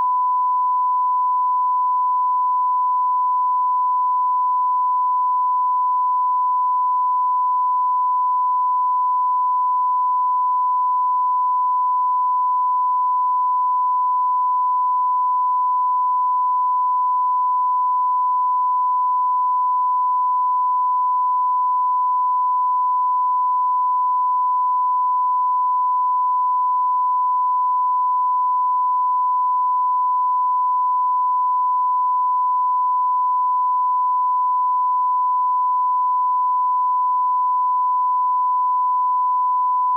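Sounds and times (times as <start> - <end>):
censor bleep tone: 0.0 - 39.9.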